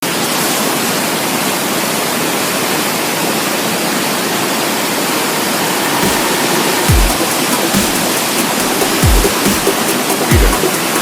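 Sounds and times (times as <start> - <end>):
waterfall rushing: 0.1 - 11.0.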